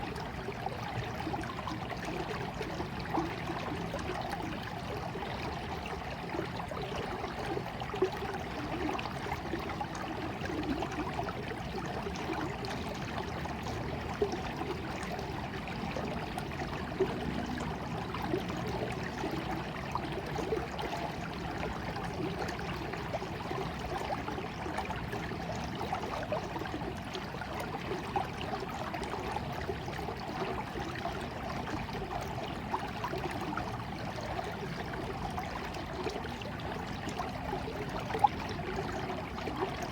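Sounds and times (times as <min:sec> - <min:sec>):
stream water trickling: 0:00.0 - 0:39.9
water splashes: 0:00.0 - 0:39.9.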